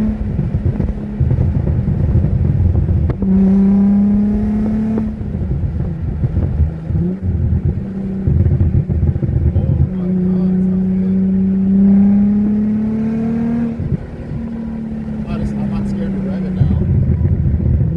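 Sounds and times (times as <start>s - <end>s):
car exhaust rumble: 0.0s - 17.9s.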